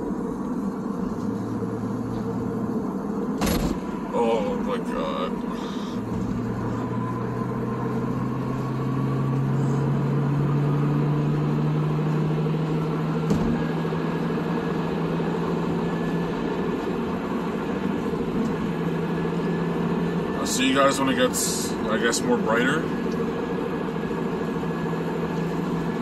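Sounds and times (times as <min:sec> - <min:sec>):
car engine droning: 0:00.0 - 0:26.0
road and tyre rumble: 0:00.0 - 0:26.0.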